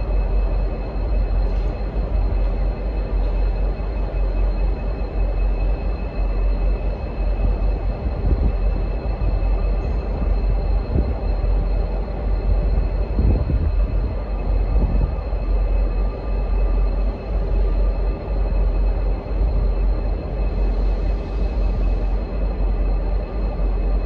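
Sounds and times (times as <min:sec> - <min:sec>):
diesel locomotives idling: 0:00.0 - 0:24.0.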